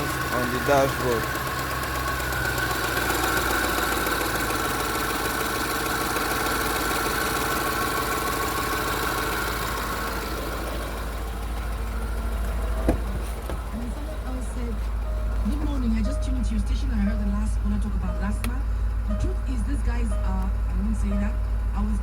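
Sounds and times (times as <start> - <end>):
engine idling with rattle: 0.0 - 22.0.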